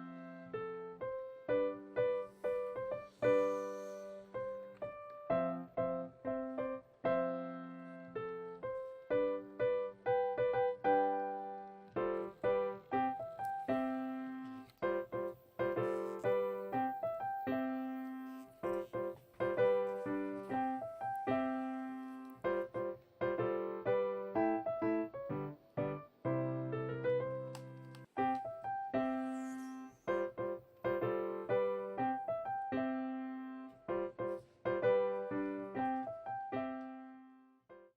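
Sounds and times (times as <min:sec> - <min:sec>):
piano music: 0:00.0 - 0:37.9.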